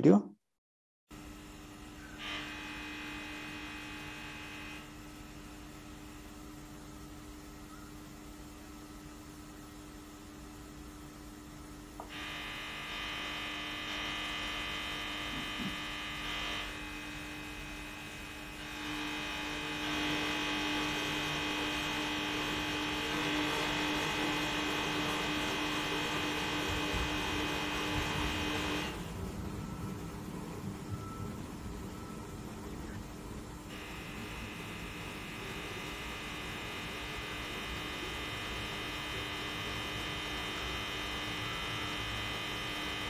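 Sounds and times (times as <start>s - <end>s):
rectifiers buzzing: 1.1s - 43.0s
steady low hum: 1.1s - 43.0s.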